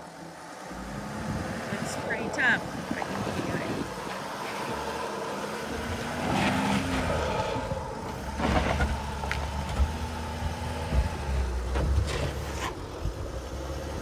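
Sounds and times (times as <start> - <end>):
van engine under load: 0.0 - 14.0.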